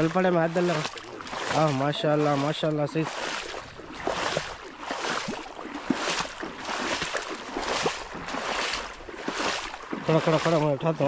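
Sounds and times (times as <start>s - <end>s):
shallow water splashing: 0.0s - 11.0s.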